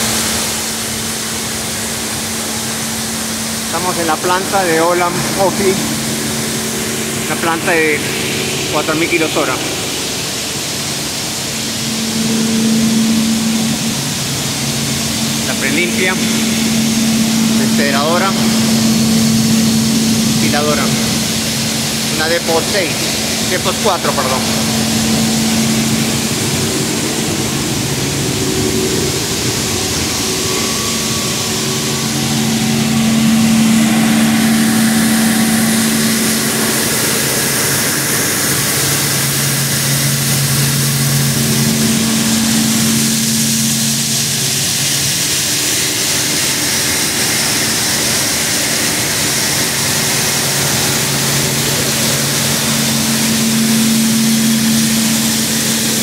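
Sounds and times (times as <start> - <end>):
machinery hum: 0.0 - 56.0.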